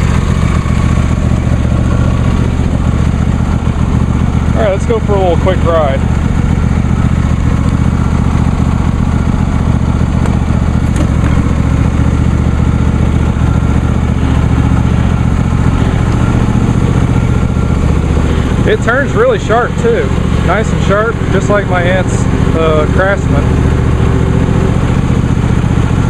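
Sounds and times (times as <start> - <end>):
lawn tractor engine running: 0.0 - 26.0.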